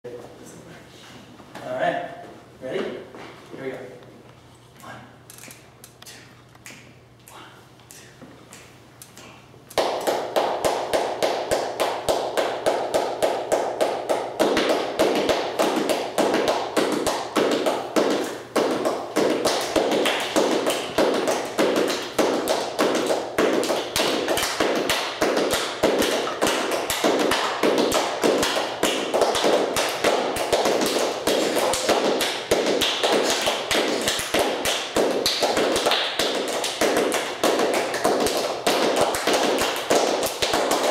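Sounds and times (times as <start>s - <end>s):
group hand-clapping rhythms: 5.4s - 40.9s.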